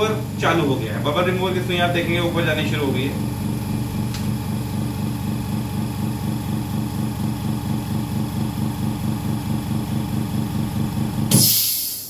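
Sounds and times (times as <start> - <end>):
air pump pulsing hum: 0.0 - 12.0.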